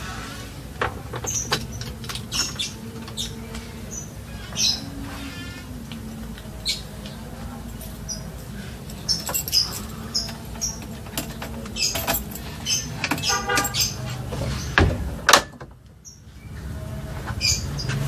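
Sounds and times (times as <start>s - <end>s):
birds chirping: 0.0s - 15.2s, 16.0s - 18.0s.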